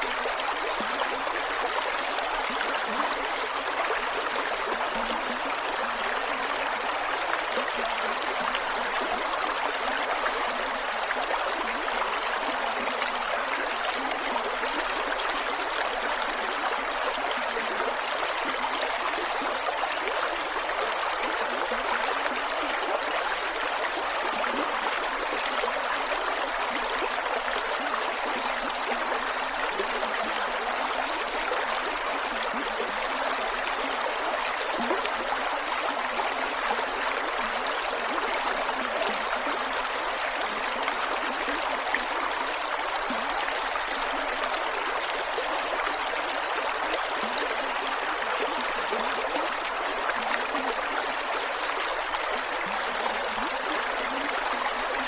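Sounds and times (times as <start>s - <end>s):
creek water flowing over rocks: 0.0s - 55.0s.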